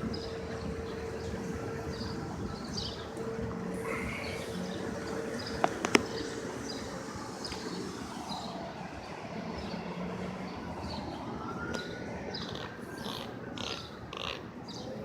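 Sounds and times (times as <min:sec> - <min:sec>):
distant siren: 0:00.0 - 0:15.0
traffic noise: 0:00.0 - 0:15.0.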